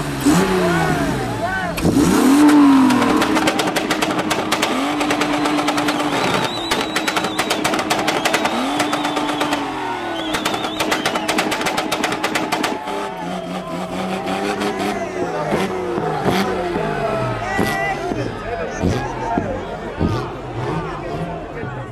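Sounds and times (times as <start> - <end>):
engine revving hard: 0.0 - 21.7.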